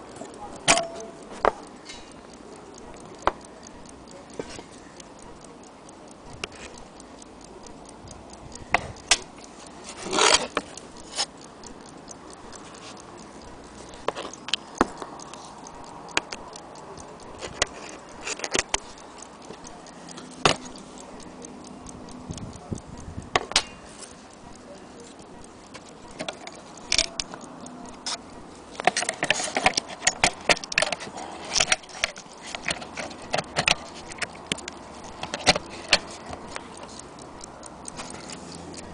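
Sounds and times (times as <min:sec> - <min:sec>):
clock ticking: 0:00.0 - 0:38.9
sharp clicks and knocks: 0:00.0 - 0:38.9.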